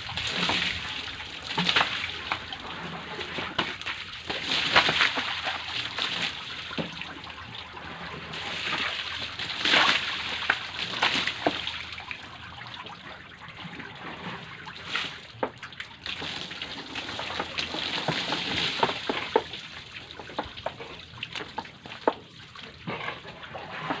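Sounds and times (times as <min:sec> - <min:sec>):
water splashing onto wooden boards: 0:00.0 - 0:24.0.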